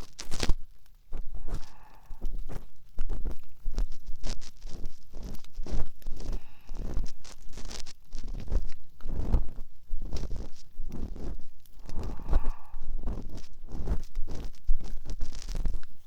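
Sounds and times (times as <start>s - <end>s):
ear pick scratching in ear: 0.0s - 16.0s.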